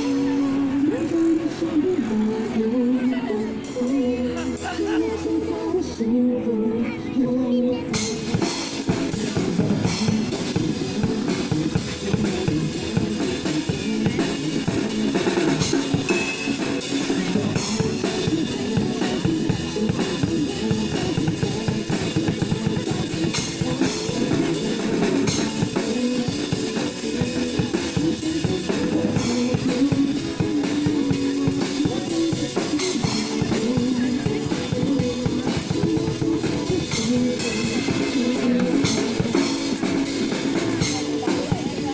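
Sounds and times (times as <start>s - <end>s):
guitar: 0.0s - 41.9s
pop song with band: 0.0s - 41.9s.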